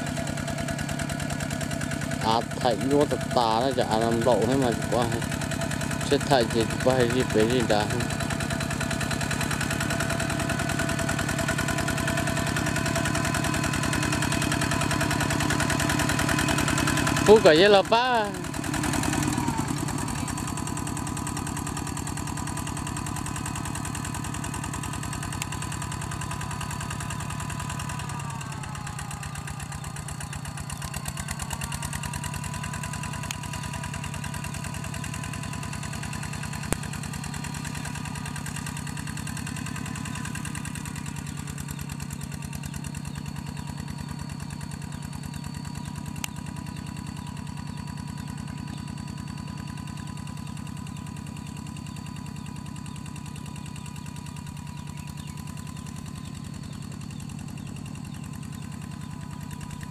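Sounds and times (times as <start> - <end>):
diesel tractor engine running: 0.0 - 59.9
wheels churning through mud: 0.0 - 59.9.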